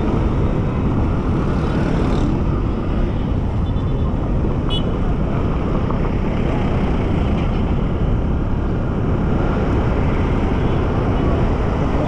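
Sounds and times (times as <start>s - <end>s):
motorcycle engine and road rumble: 0.0s - 12.0s.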